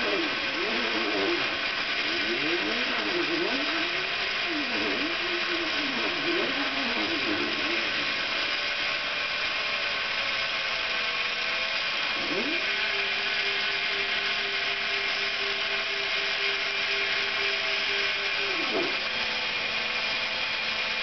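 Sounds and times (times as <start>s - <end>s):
motors whining with gliding pitch: 0.0s - 21.0s
router spindle whining: 0.0s - 21.0s.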